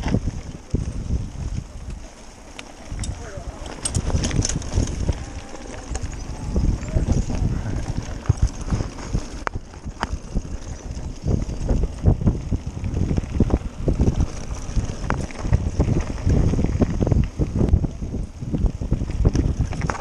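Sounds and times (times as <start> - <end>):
bike knocks and rattles: 0.0 - 17.9, 18.6 - 20.0
low rumble of bike riding: 0.0 - 20.0
wind buffeting microphone: 0.0 - 20.0.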